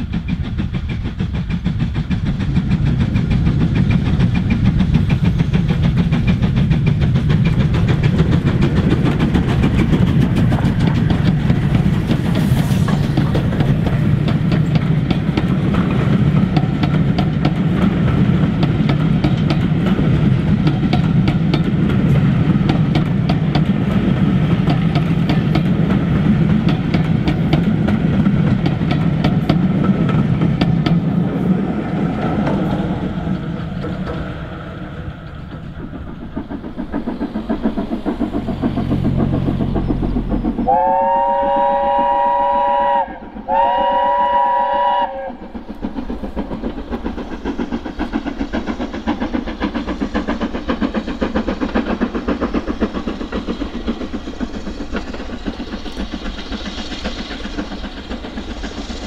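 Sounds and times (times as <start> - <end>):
steam locomotive exhaust beats: 0.0 - 59.0
train coaches rolling on rails: 0.0 - 59.0.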